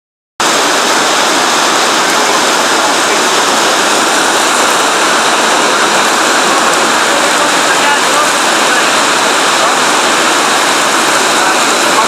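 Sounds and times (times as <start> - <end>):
heavy rain on concrete: 0.4 - 12.0.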